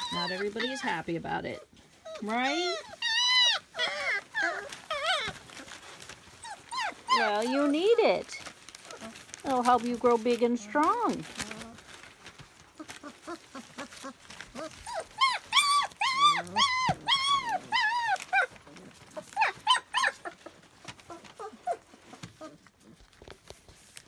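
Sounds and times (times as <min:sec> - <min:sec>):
puppies whining and crying: 0:00.0 - 0:23.4.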